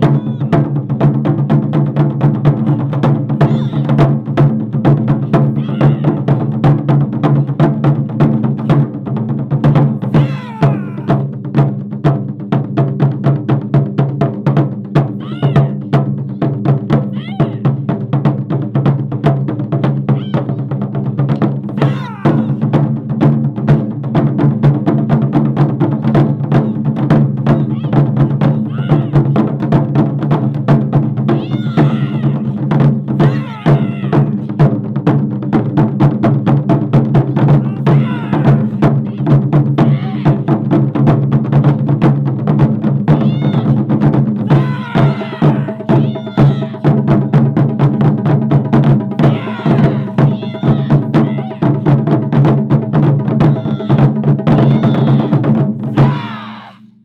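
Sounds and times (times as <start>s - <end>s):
taiko drum ensemble playing: 0.0s - 56.6s.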